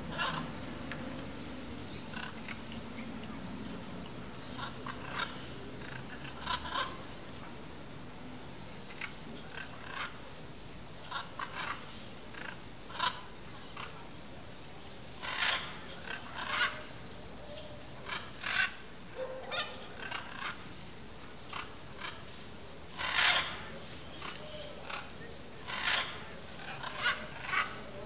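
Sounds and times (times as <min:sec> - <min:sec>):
macaws harsh raspy calls: 0:00.0 - 0:02.7, 0:04.4 - 0:07.6, 0:08.8 - 0:10.4, 0:11.0 - 0:14.2, 0:15.1 - 0:28.0.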